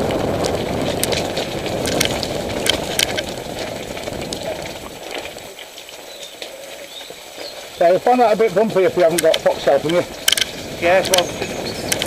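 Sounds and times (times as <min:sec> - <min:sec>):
bike tyres rumbling on stones: 0:00.0 - 0:12.0
stones and bike parts rattling: 0:00.0 - 0:12.0.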